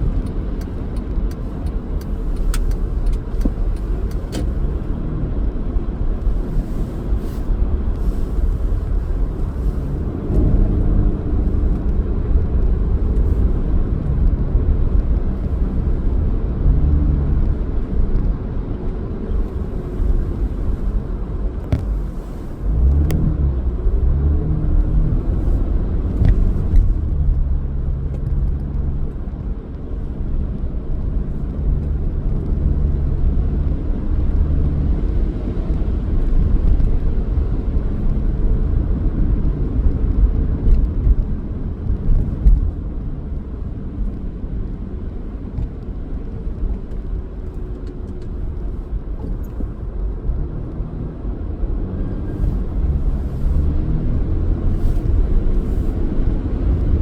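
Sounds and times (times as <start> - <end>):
car engine and road rumble: 0.0 - 57.0
faint engine hum: 0.0 - 57.0.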